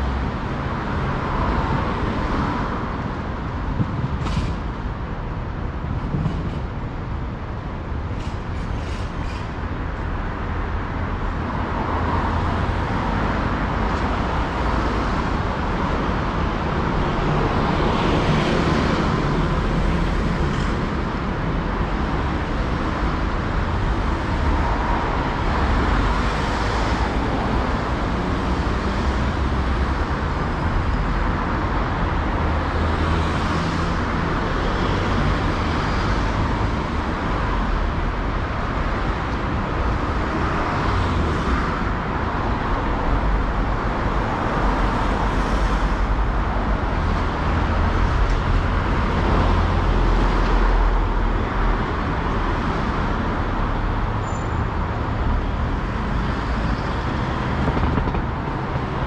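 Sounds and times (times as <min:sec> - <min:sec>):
road traffic rumble: 0:00.0 - 0:59.0
vehicles passing: 0:00.0 - 0:59.0.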